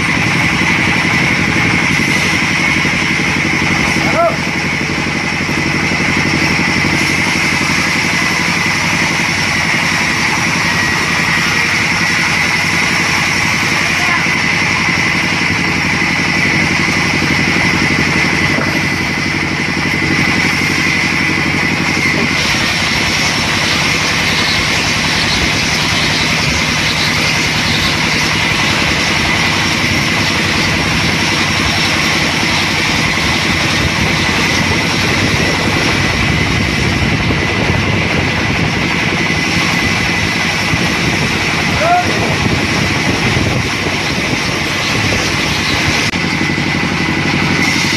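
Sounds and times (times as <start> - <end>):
band saw cutting log: 0.0 - 47.9.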